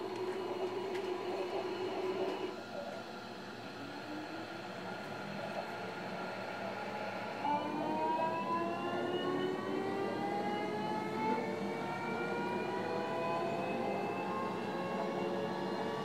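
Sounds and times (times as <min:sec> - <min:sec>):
electric train motors whining: 0:00.0 - 0:16.0.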